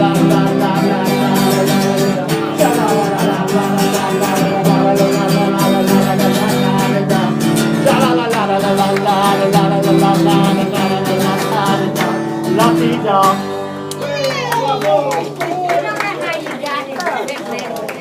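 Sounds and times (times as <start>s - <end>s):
person singing: 0.0s - 15.0s
acoustic guitar strumming: 0.0s - 16.2s.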